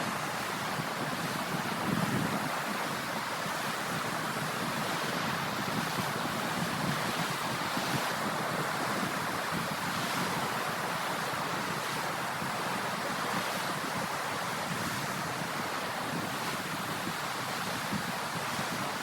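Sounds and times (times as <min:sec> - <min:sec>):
ocean waves washing onto shore: 0:00.0 - 0:19.0.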